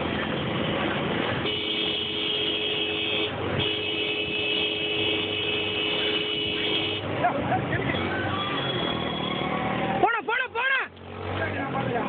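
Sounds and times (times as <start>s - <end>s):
road crowd and engine noise: 0.0s - 12.0s.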